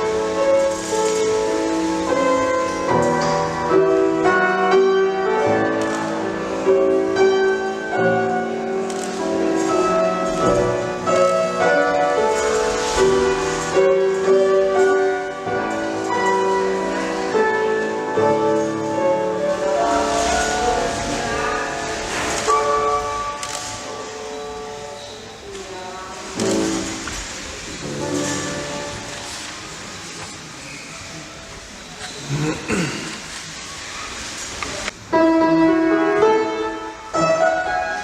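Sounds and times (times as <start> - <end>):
piano music: 0.0 - 32.0, 33.9 - 38.0.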